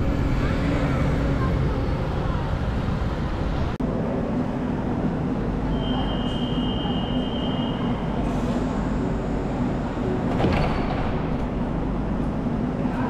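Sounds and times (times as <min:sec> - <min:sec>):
bus running: 0:00.0 - 0:13.0
metro train humming: 0:00.0 - 0:13.0
street traffic: 0:00.0 - 0:13.0.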